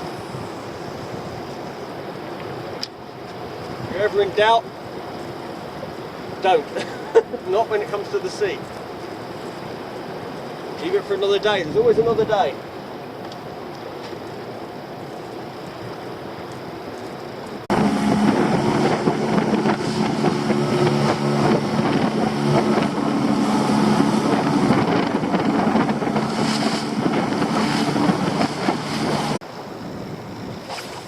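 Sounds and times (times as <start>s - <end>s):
boat engine humming: 0.0s - 31.0s
water rushing past: 0.0s - 31.0s
wind buffeting microphone: 0.0s - 31.0s.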